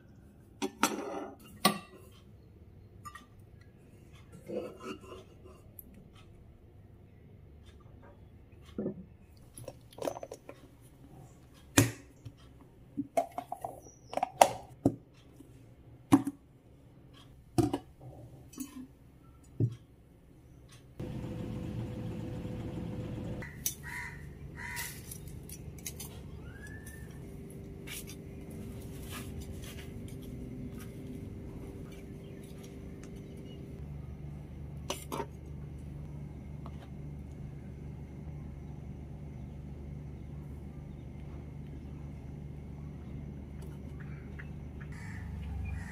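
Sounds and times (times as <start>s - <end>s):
outdoor background noise: 0.0s - 45.9s.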